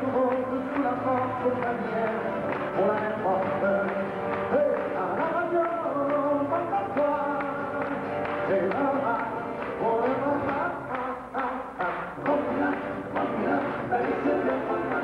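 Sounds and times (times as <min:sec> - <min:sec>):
acoustic guitar music: 0:00.0 - 0:15.0
man singing: 0:00.0 - 0:15.0.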